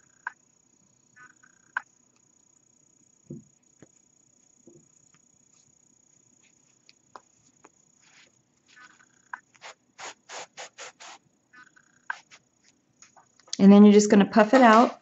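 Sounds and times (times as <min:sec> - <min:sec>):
faint high hiss: 0:00.0 - 0:13.6.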